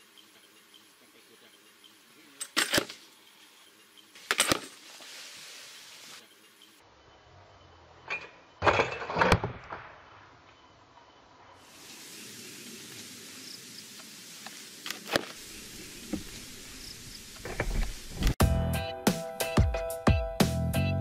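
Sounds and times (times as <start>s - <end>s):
steady outdoor hiss: 0.0s - 18.4s.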